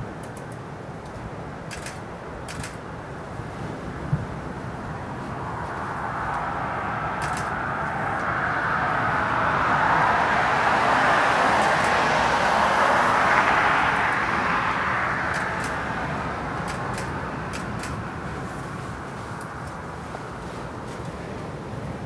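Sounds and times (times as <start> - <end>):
passing car road noise: 1.3 - 22.0.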